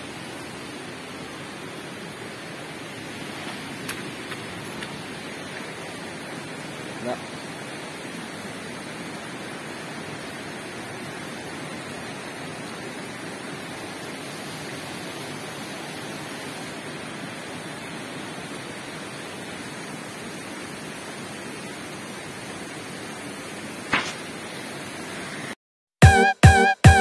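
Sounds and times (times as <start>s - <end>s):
flowing water rushing: 0.0s - 25.6s.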